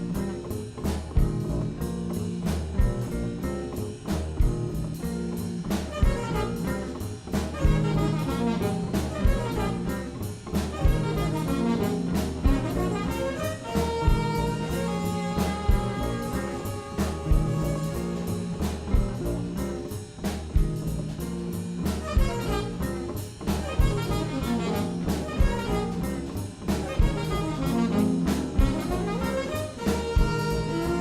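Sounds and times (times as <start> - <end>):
drum kit and bass: 0.0 - 31.0
jazz horns: 0.0 - 31.0.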